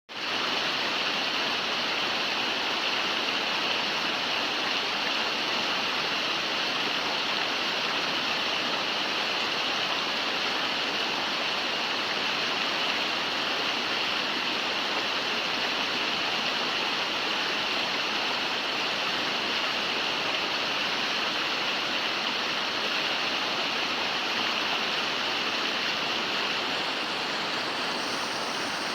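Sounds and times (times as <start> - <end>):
river water rushing over rocks: 0.2 - 28.9.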